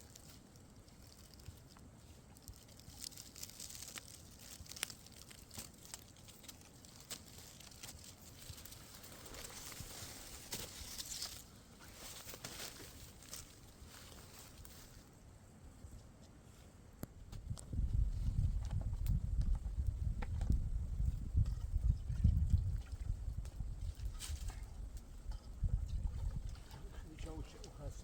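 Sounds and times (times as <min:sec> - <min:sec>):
faint rustling and crackling: 0:00.0 - 0:28.0.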